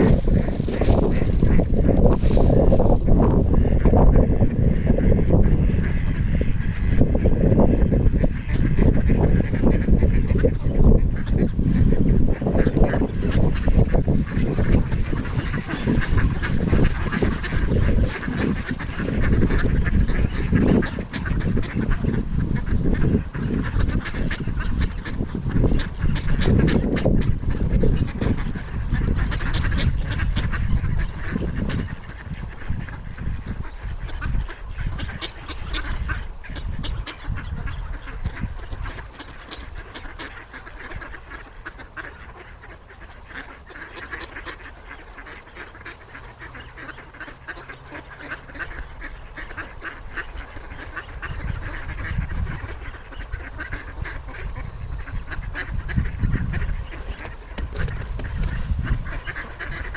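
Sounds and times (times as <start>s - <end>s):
ducks calling: 0.0s - 59.9s.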